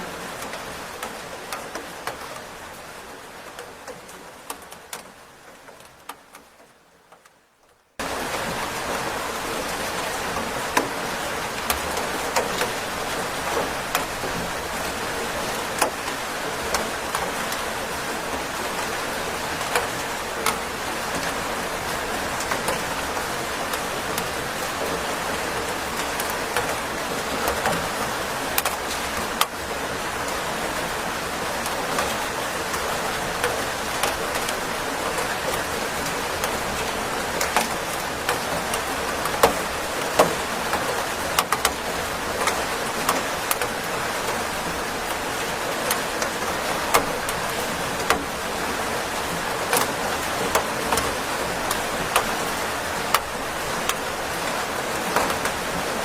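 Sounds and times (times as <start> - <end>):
raindrops ticking: 0.0 - 56.0
steady rain falling: 0.0 - 56.0.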